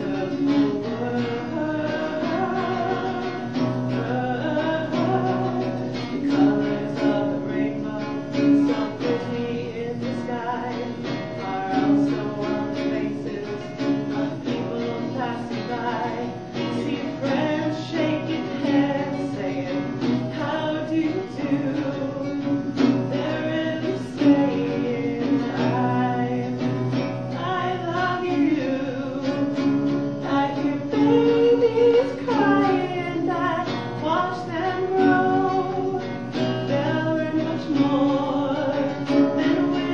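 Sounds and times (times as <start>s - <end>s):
acoustic guitar: 0.0s - 39.9s
person singing: 0.0s - 39.9s.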